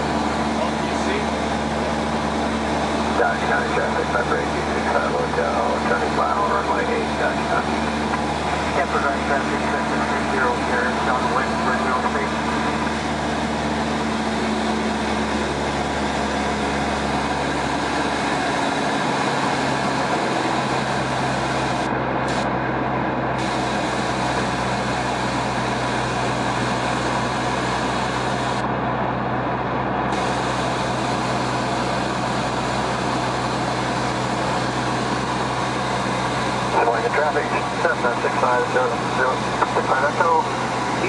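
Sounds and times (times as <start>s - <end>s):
propeller plane engine drone: 0.0s - 41.0s.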